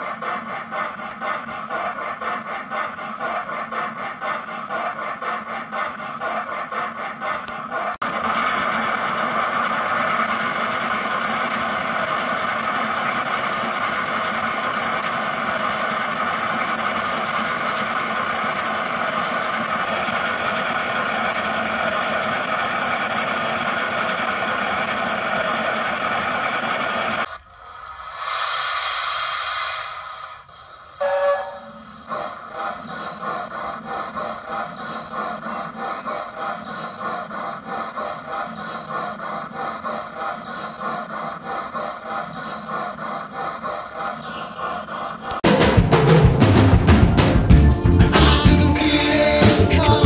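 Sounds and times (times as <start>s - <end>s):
hiss: 0.0s - 45.4s
steam engine running sounds: 0.0s - 50.0s.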